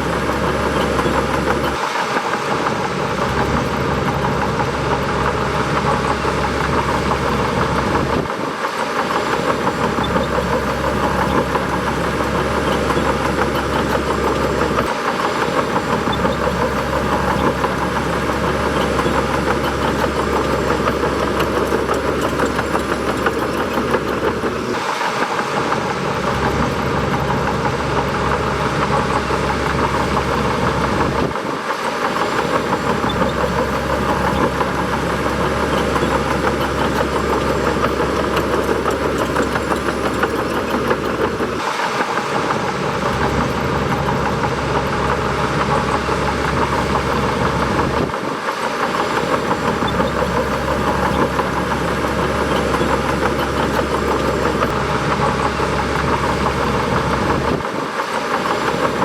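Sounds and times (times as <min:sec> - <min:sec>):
bulldozer diesel engine rumbling: 0:00.0 - 0:59.0.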